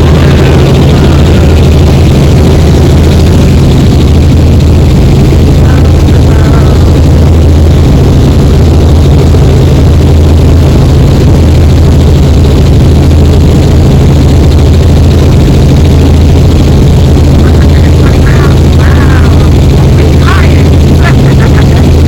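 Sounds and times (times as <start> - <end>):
helicopter engine and rotor: 0.0 - 22.0.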